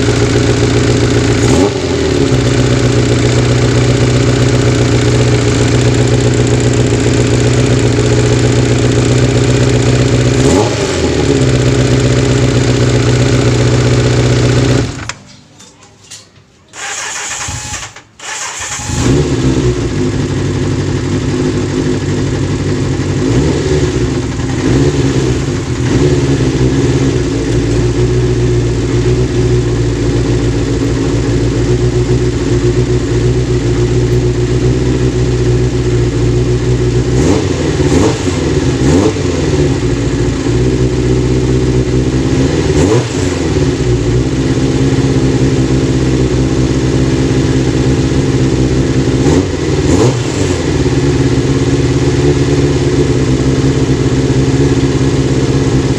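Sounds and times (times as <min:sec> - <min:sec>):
motorcycle engine idling and revving: 0:00.0 - 0:15.2, 0:16.8 - 0:55.9.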